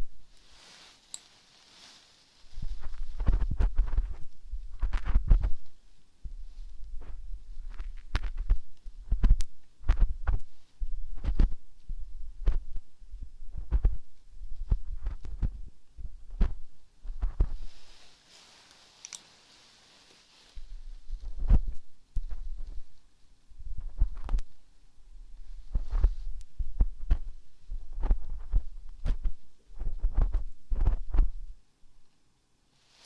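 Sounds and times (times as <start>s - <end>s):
rubbing on microphone: 0.0s - 31.6s.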